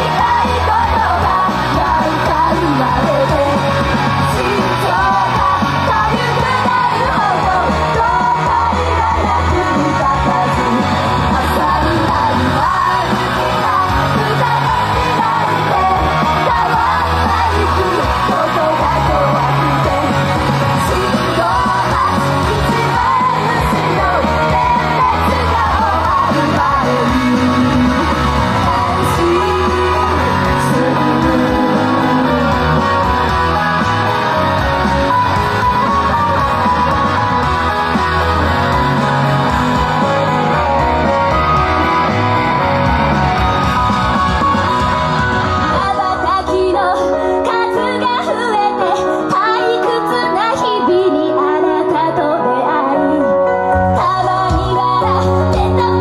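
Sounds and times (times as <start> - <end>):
band music with steady beat: 0.0 - 46.1
group singing live: 0.0 - 56.0.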